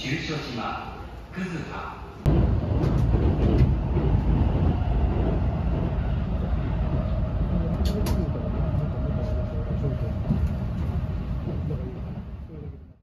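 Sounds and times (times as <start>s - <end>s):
train wheels rumbling on rails: 2.3s - 13.0s.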